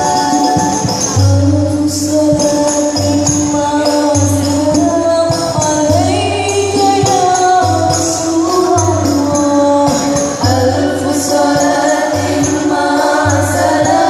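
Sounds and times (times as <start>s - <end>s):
held melody line: 0.0s - 14.0s
jingling tambourines: 0.0s - 14.0s.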